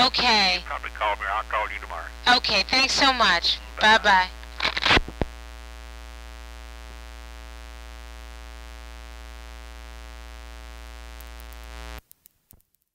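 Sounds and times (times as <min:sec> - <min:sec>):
telephone line hum and hiss: 0:00.0 - 0:12.0.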